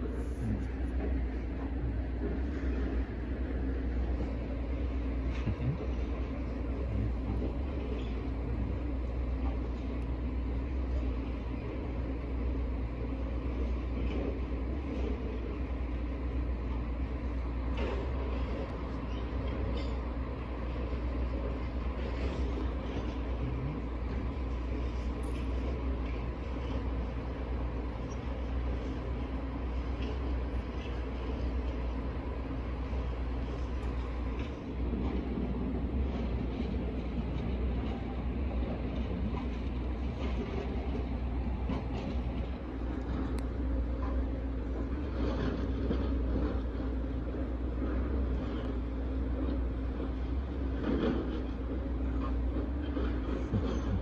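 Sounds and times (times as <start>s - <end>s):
low rumble of vehicles: 0.0s - 54.0s.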